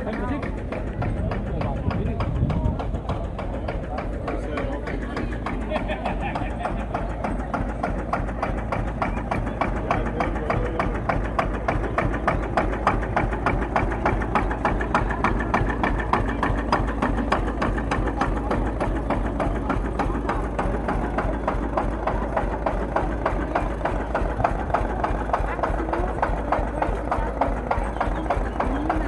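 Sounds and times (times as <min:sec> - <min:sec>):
tractor engine knocking steadily: 0:00.0 - 0:29.0.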